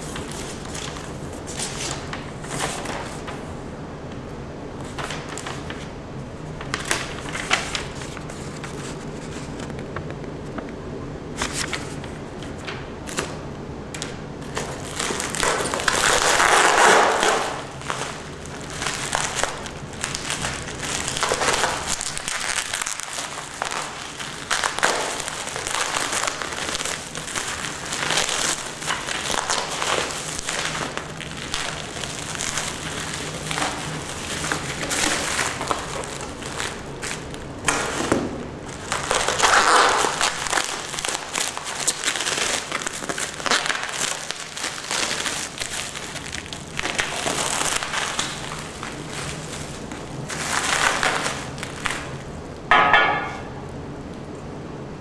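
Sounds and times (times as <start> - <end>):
bubble wrap crinkling: 0.0 - 3.5, 4.8 - 10.0, 11.3 - 53.3.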